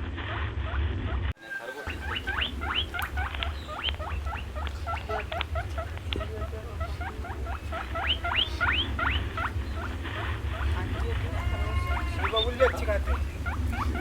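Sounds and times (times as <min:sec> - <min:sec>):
low hum: 0:00.1 - 0:14.0
small animals squeaking: 0:00.3 - 0:14.0.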